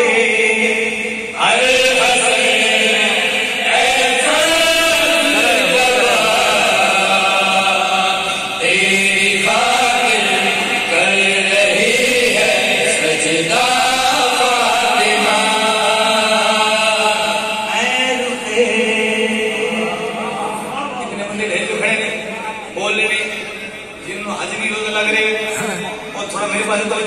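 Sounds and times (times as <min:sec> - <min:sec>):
person chanting into a microphone: 0:00.0 - 0:23.2.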